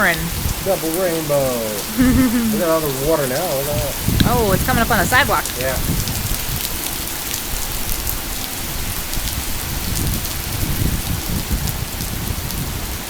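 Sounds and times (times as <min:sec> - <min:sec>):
heavy rain pouring: 0:00.0 - 0:13.0
sharp rain drop ticks: 0:00.0 - 0:13.0.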